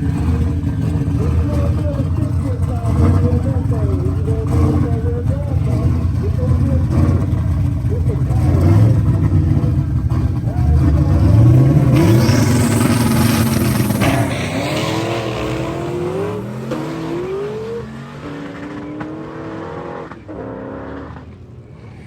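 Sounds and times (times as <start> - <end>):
drag race car accelerating: 0.0 - 22.0.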